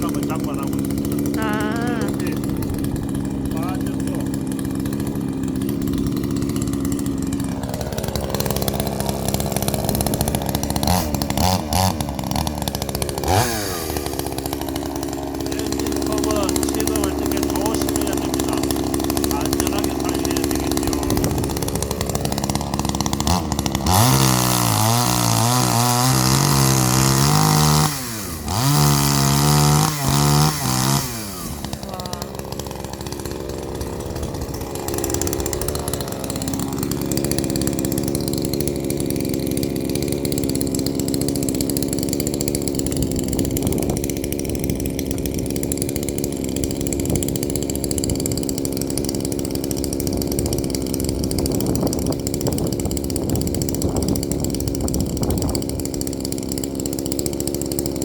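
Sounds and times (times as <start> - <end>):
chainsaw cutting logs: 0.0 - 58.0
chainsaw idling: 0.0 - 58.0.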